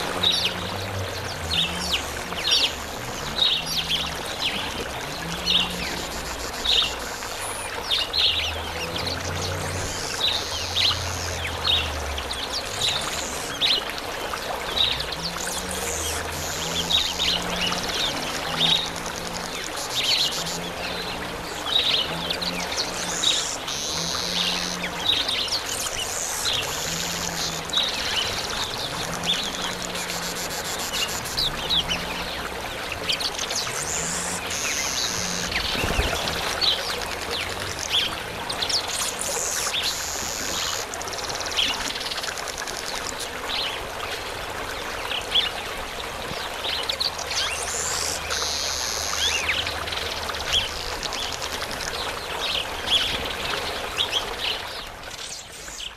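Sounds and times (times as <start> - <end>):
buzzy bird song: 0.0 - 14.0, 14.6 - 44.1, 44.9 - 55.9
running water: 0.0 - 55.9.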